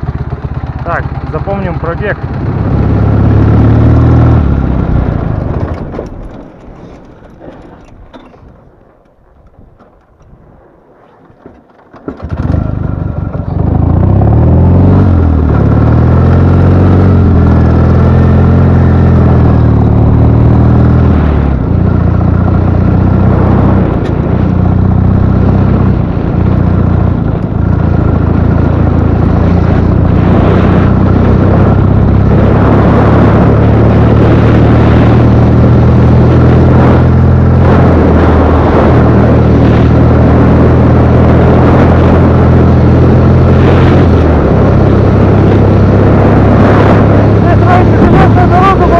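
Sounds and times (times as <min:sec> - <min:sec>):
motorcycle engine pulling away: 0:00.0 - 0:08.4, 0:11.9 - 0:48.1.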